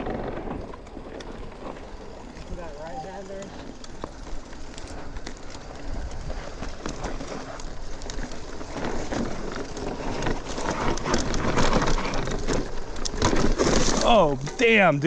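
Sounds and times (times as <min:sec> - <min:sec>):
bike rattling: 0:00.0 - 0:15.0
bike tyres crunching over dirt: 0:00.0 - 0:15.0.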